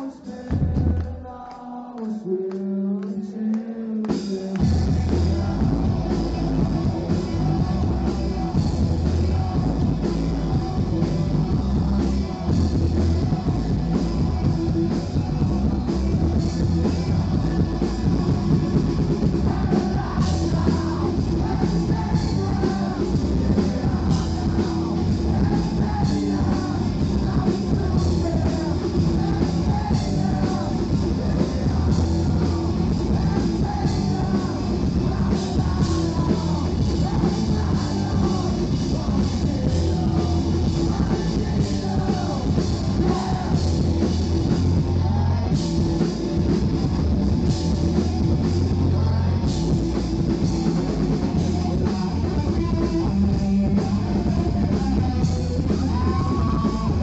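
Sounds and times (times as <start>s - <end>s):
bass guitar: 0.0s - 1.4s, 4.6s - 57.0s
person singing: 0.0s - 57.0s
drum kit: 4.1s - 57.0s
distorted electric guitar: 4.2s - 57.0s.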